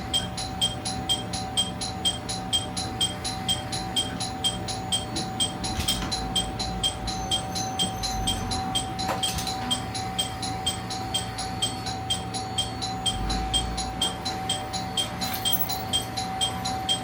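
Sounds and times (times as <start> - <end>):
rapid high electronic beeps: 0.0 - 17.0
steady humming tone: 0.0 - 17.0.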